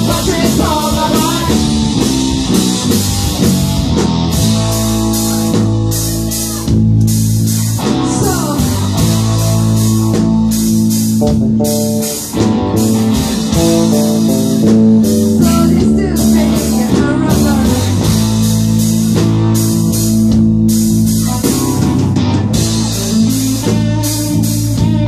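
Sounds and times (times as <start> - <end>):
distorted electric guitars: 0.0 - 25.0
drum kit: 0.0 - 25.0.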